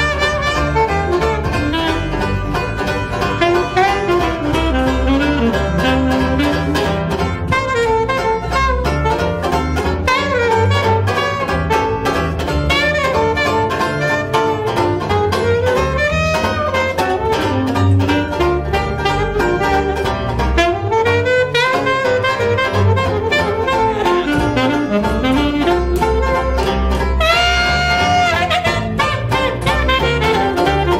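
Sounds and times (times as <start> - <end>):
plucked double bass: 0.0 - 30.9
saxophone jazz solo: 0.0 - 30.9
strummed banjo: 0.0 - 30.9.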